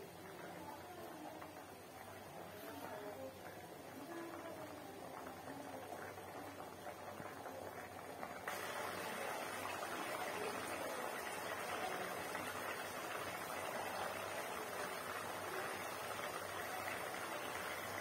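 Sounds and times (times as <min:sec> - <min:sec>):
curry bubbling in a pan: 0:00.0 - 0:18.0.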